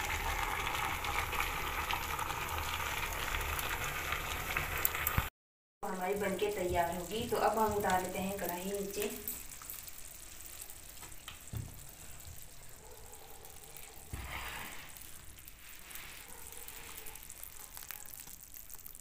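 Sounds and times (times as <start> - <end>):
food bubbling and sizzling: 0.0 - 5.3, 5.9 - 19.0.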